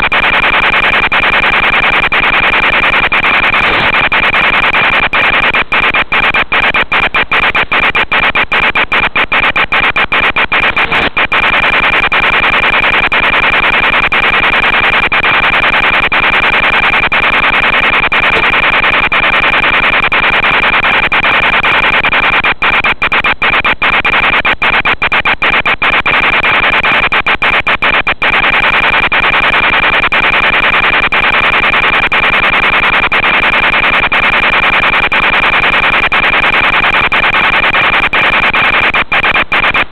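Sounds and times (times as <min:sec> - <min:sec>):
constant high-pitched tone: 0:00.0 - 0:39.9
static hiss: 0:00.0 - 0:39.9.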